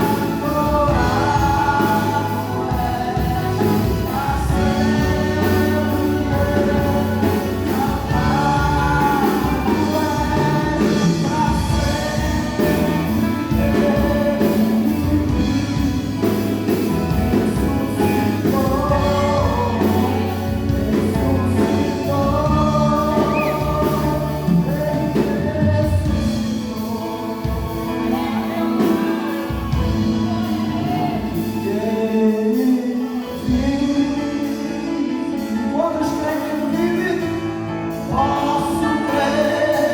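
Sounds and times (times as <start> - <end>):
band playing worship song: 0.0 - 39.9
voices singing together: 0.0 - 39.9.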